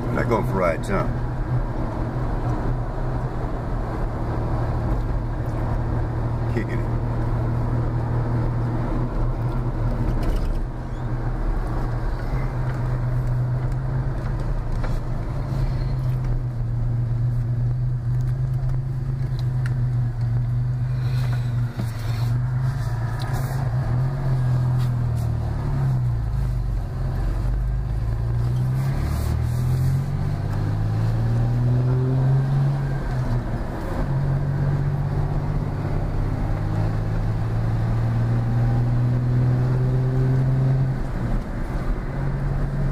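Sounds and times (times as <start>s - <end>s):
car engine and road drone: 0.0s - 42.9s.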